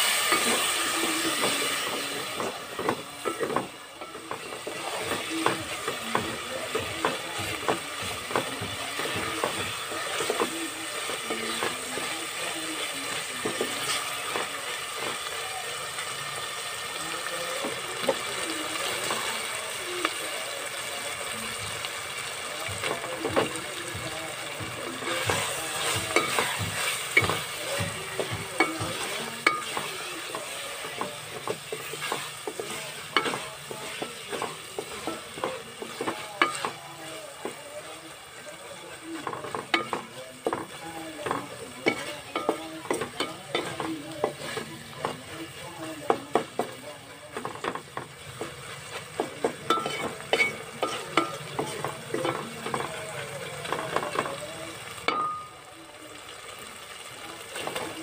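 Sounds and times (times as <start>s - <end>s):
masala sizzling in oil: 0.0s - 58.0s.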